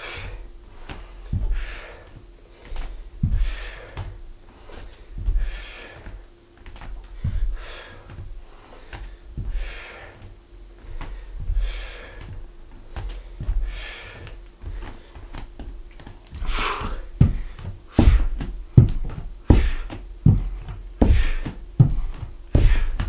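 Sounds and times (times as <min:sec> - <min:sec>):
bare foot thudding on wooden floor: 0:00.0 - 0:23.0
man breathing hard: 0:00.0 - 0:23.0.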